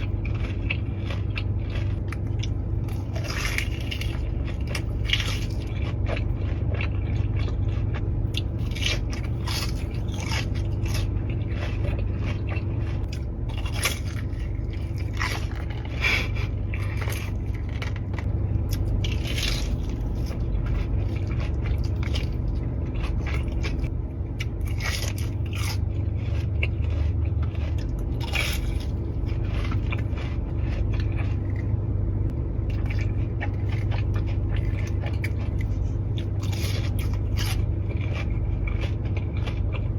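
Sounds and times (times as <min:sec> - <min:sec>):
low hum: 0:00.0 - 0:39.9
person chewing crunchy food: 0:00.0 - 0:39.9.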